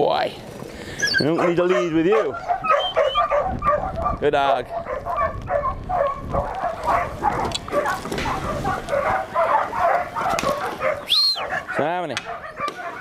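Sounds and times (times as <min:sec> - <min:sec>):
dog whining and yipping: 0:01.0 - 0:01.8, 0:02.4 - 0:04.2, 0:04.9 - 0:13.0.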